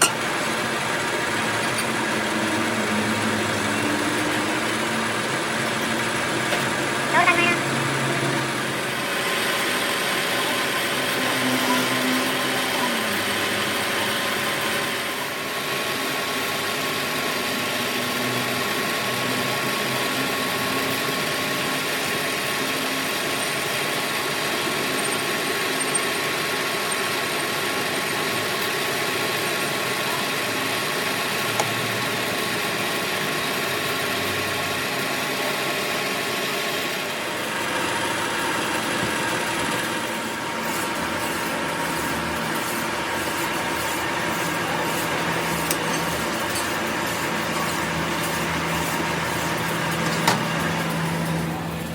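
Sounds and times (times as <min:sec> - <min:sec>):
constant machine whine: 0:00.0 - 0:51.9
workshop machinery humming: 0:00.0 - 0:51.9.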